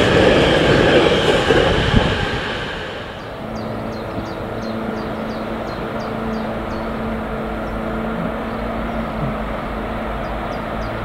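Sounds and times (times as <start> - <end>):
distant approaching locomotive: 0.0 - 11.0
freight train hum: 0.0 - 11.0.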